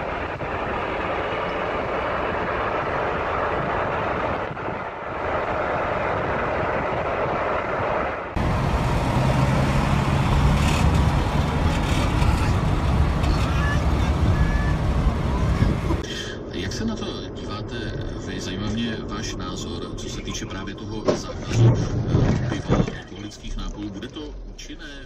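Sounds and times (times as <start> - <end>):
car road noise and engine hum: 0.0 - 25.0
deep rumble: 0.0 - 25.0.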